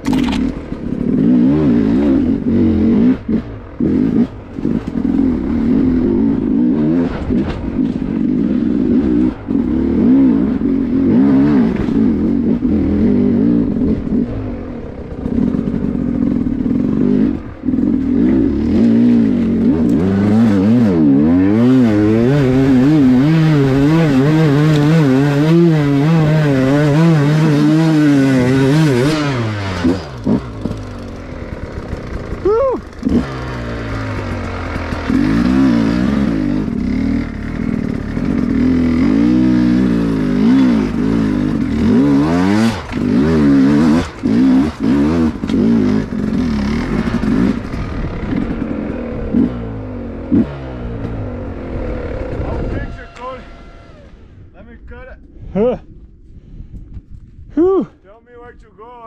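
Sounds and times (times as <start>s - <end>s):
dirt bike engine: 0.0s - 59.0s.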